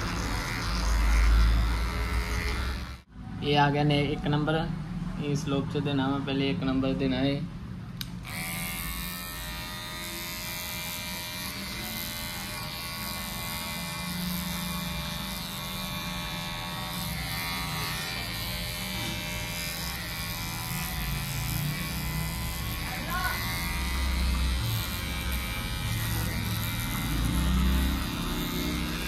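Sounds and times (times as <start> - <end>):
electric hair clippers buzzing: 0.0 - 3.1, 8.0 - 29.0.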